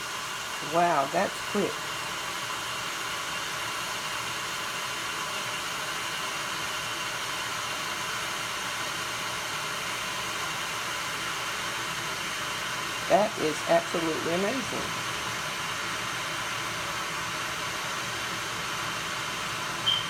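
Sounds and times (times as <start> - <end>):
electric kettle hissing: 0.0 - 20.0.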